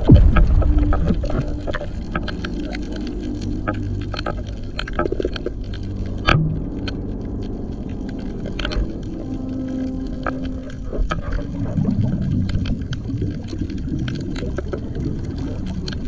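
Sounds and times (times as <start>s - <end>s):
underwater clicks and pops: 0.0s - 16.0s
underwater low rumble: 0.0s - 16.0s.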